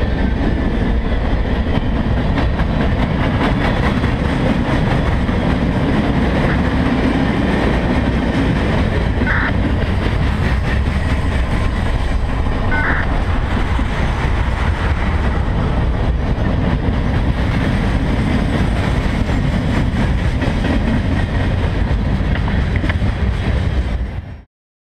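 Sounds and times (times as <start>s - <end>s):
steel wheels rumbling on rail: 0.0s - 24.5s.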